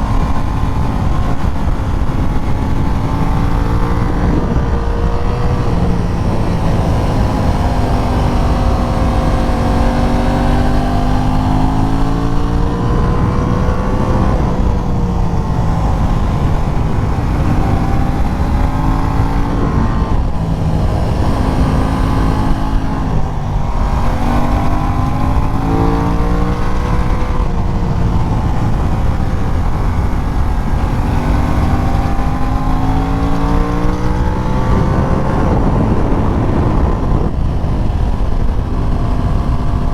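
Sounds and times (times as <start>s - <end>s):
low wind rumble: 0.0s - 39.9s
motorcycle engine revving: 0.0s - 39.9s.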